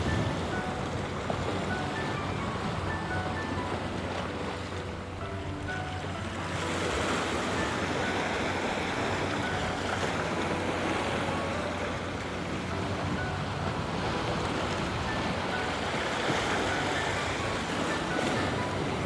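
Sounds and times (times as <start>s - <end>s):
sea waves washing against rocks: 0.0s - 19.0s.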